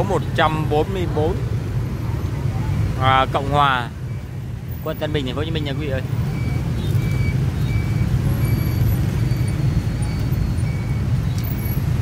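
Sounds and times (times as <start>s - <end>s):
traffic rumbling past: 0.0s - 12.0s.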